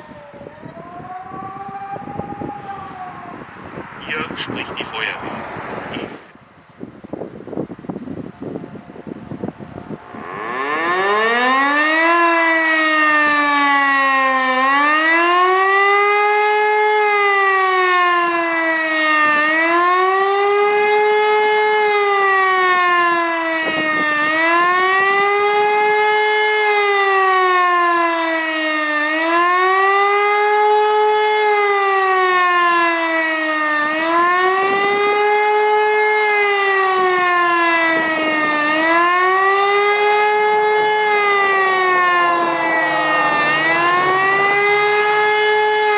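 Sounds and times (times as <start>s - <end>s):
wailing siren: 0.0s - 6.3s, 8.1s - 45.9s.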